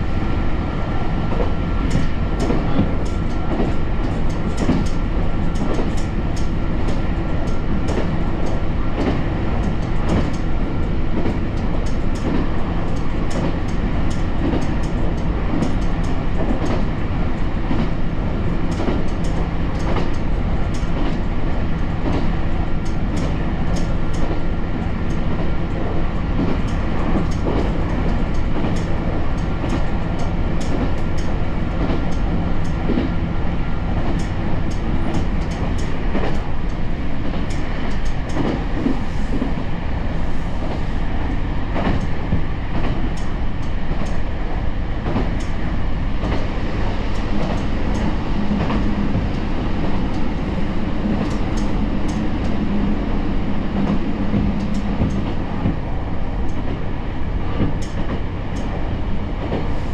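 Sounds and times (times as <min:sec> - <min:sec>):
railcar engine and wheels rumbling: 0:00.0 - 0:59.9.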